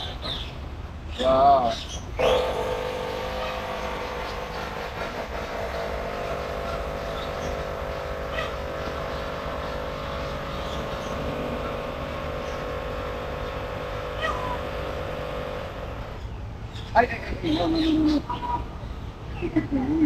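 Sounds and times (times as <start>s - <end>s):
machine droning hum: 0.0s - 20.0s.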